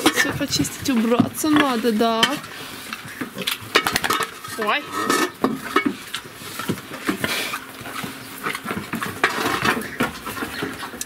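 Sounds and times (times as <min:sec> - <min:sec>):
small hooves on plank floor: 0:00.0 - 0:11.0.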